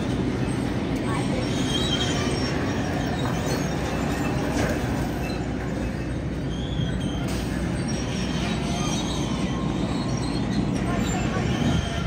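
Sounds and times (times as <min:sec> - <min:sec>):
machinery low rumble: 0:00.0 - 0:12.0.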